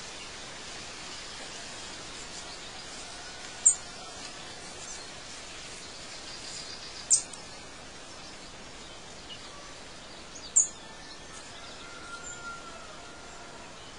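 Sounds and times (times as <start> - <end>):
background hiss: 0.0 - 13.9.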